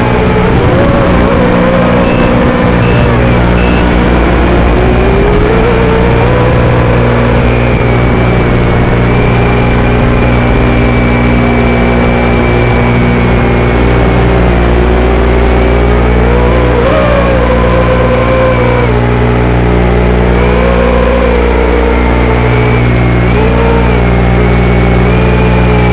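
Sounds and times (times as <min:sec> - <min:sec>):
buzzing hum with wavering whine: 0:00.0 - 0:25.9.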